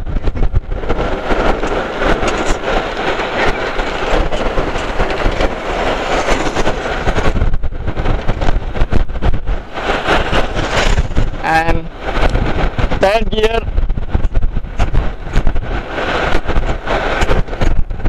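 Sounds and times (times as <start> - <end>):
road rumble: 0.0 - 18.0
wind on microphone: 0.0 - 18.0.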